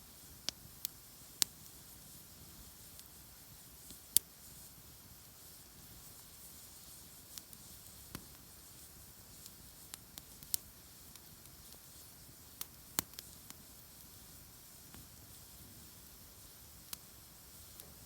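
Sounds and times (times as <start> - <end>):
faint steady hiss: 0.0 - 18.0
campfire crackling: 0.2 - 18.0.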